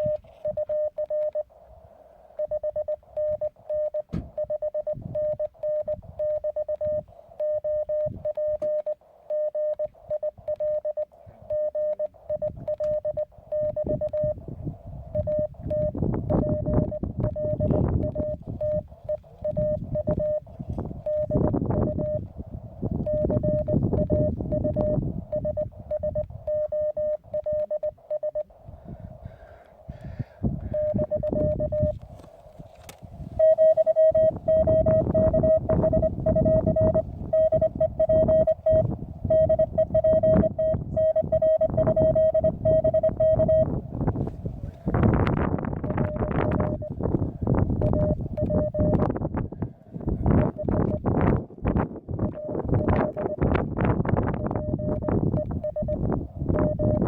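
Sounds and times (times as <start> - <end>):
morse code tone: 0.0 - 1.6, 2.3 - 32.3, 33.2 - 44.1, 45.8 - 47.0, 47.7 - 49.1, 50.4 - 51.0, 52.3 - 53.6, 54.3 - 57.0.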